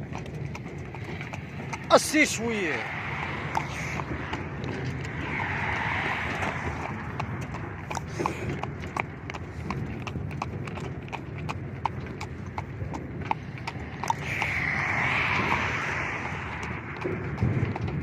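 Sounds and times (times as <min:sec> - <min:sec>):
hooves clip-clopping on road: 0:00.0 - 0:18.0.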